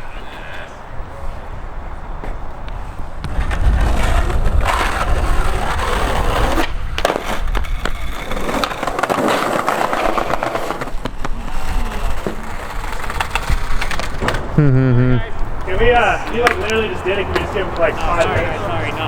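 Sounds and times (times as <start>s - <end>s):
skateboard wheels rolling on pavement: 0.0s - 19.0s
skateboard clacks: 2.7s - 19.0s.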